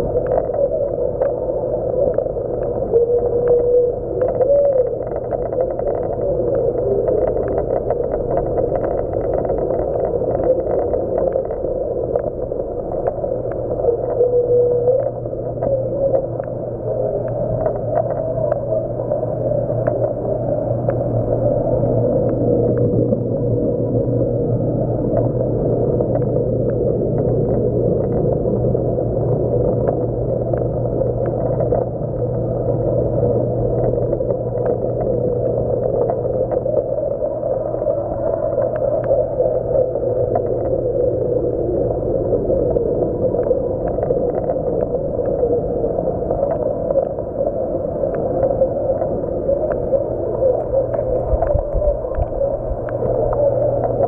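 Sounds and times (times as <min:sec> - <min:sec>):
faint ticks: 0:00.0 - 0:54.0
water churning and gurgling: 0:00.0 - 0:54.0.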